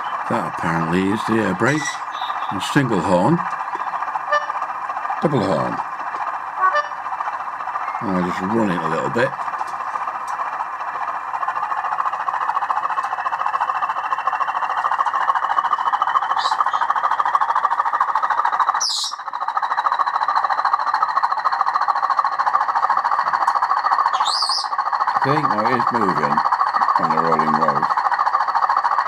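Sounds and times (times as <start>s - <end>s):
faint whine: 0.0s - 29.0s
tinny diesel engine sound: 0.0s - 29.0s.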